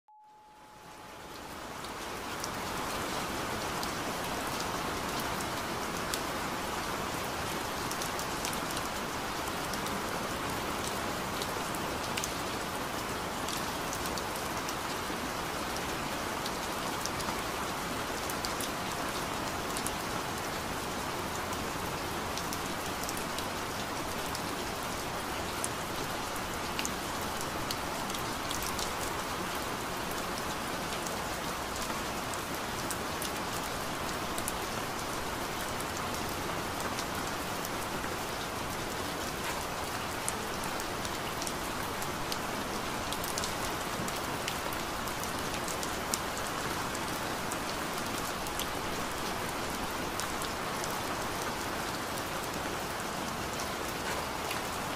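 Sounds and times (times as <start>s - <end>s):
steady rain: 0.6s - 54.9s.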